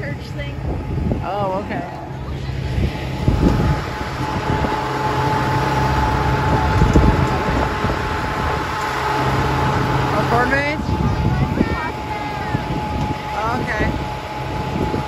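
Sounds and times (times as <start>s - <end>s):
steady whine: 0.0s - 15.0s
tractor diesel engine running: 0.0s - 15.0s.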